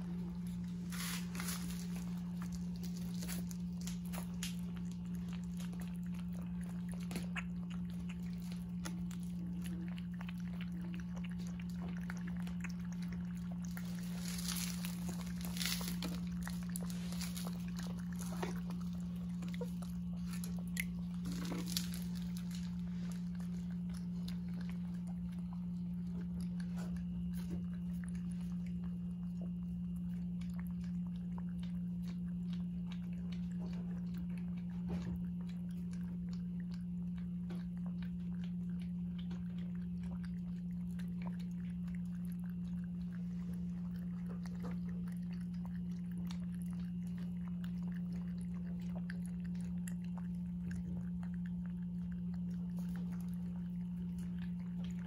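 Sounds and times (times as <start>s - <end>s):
puppies lapping water: 0.0s - 55.0s
steady low hum: 0.0s - 55.0s.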